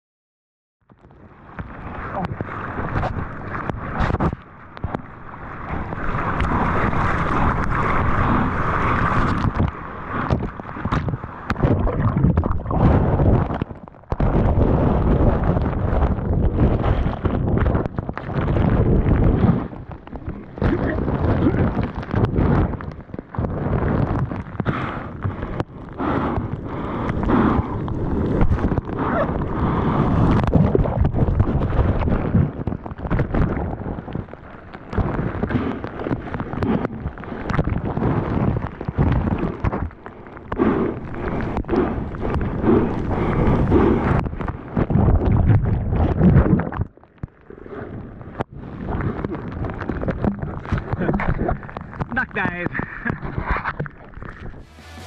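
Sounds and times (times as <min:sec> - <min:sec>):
waves breaking and splashing: 0:01.0 - 0:55.0
wind buffeting microphone: 0:01.3 - 0:47.0, 0:47.6 - 0:55.0.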